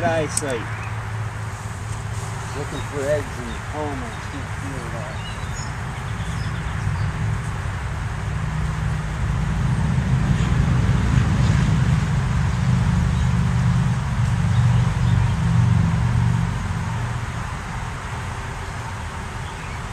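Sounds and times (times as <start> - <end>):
honey bees buzzing: 0.0 - 19.9.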